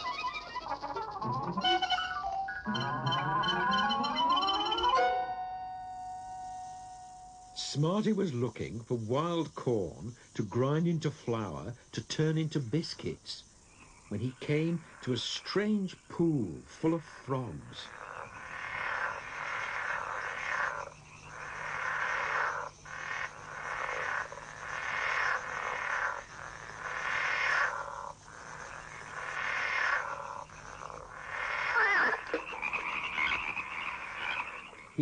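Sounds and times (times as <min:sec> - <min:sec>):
frogs croaking: 0:00.0 - 0:35.0.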